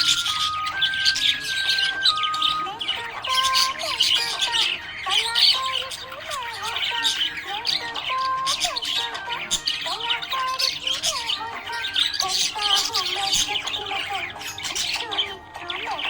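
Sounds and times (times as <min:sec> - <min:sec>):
background music with held notes: 0:00.0 - 0:16.0
budgerigars chirping and chattering: 0:00.0 - 0:16.0.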